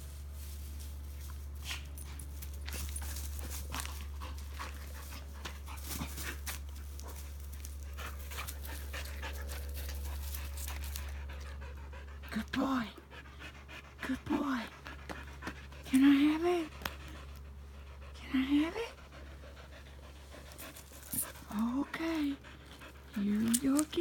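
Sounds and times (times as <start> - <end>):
steady low hum: 0.0 - 24.0
dog panting: 1.6 - 24.0.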